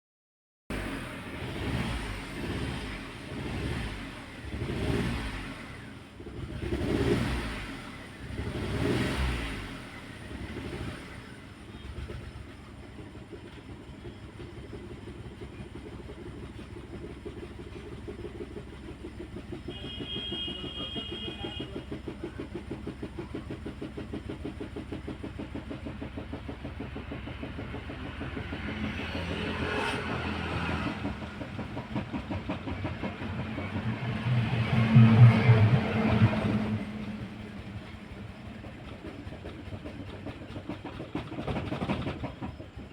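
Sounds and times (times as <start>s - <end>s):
car engine revving and idling: 0.7s - 42.9s.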